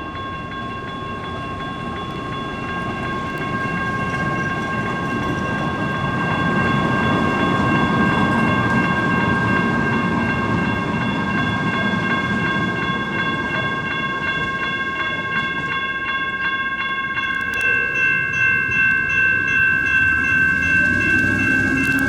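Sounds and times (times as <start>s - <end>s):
crossing warning bells ringing: 0.0s - 22.0s
light rail train rumbling: 0.0s - 22.0s.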